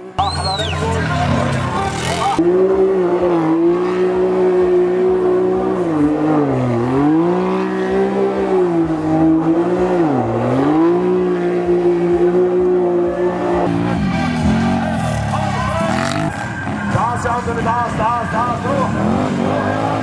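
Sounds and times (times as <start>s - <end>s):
engine at high revs: 1.0s - 20.0s.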